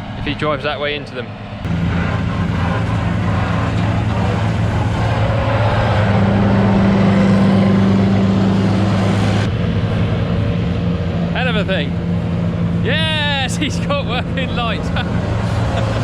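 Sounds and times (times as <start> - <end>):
combine harvester engine hum: 1.2 - 16.0
threshing machinery rushing: 1.7 - 16.0.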